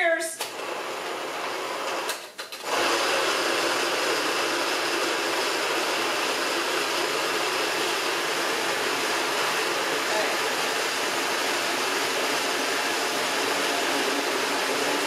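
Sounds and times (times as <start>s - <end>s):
blender whirring: 0.0s - 15.0s.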